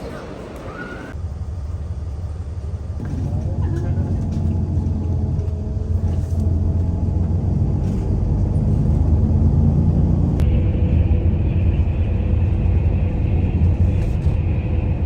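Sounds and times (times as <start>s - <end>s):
vehicle rumbling: 0.0s - 15.0s.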